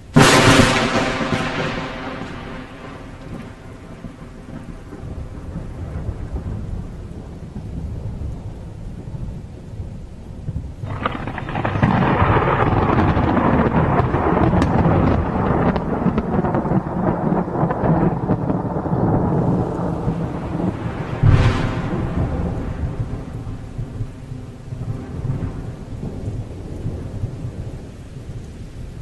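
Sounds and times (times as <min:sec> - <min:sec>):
thunderclap: 0:00.0 - 0:28.4
rain: 0:00.0 - 0:29.0
rolling thunder: 0:00.0 - 0:29.0.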